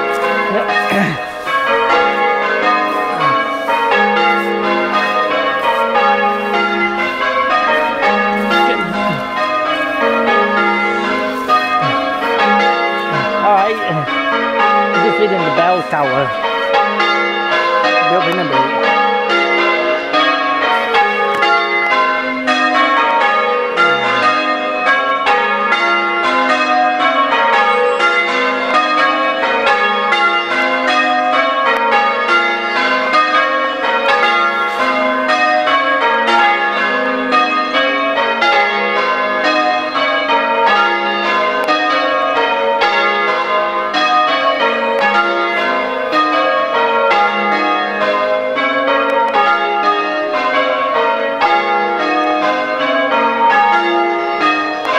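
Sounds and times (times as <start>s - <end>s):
church bells change-ringing: 0.0s - 54.9s.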